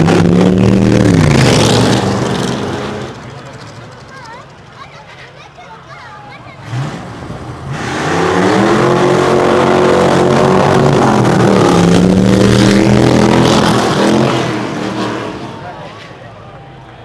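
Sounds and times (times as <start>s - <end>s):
car engines revving loudly: 0.0s - 5.2s, 6.4s - 17.0s.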